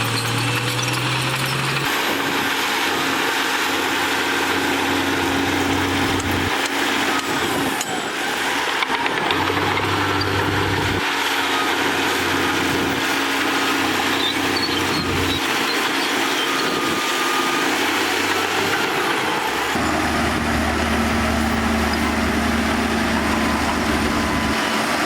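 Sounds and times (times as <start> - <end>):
heavy machinery diesel engines: 0.0 - 25.0.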